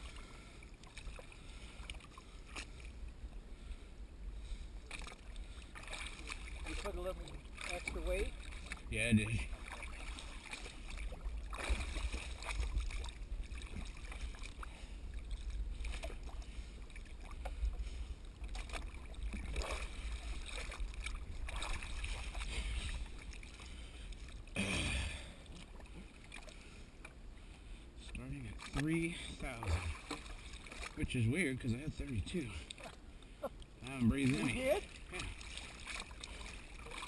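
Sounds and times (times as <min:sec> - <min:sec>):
water and boat rumble: 0:00.0 - 0:37.0
water splashes: 0:00.0 - 0:37.0.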